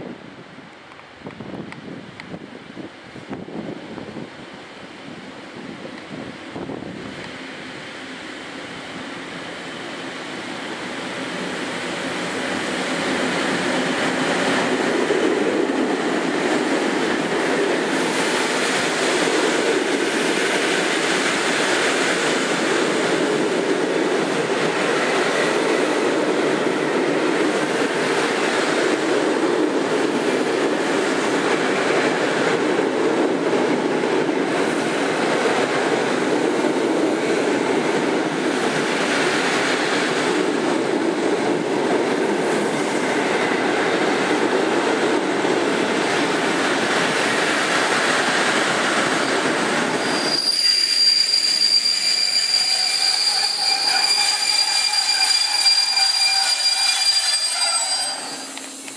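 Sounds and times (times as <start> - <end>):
train wheels on rails: 0.6 - 58.9.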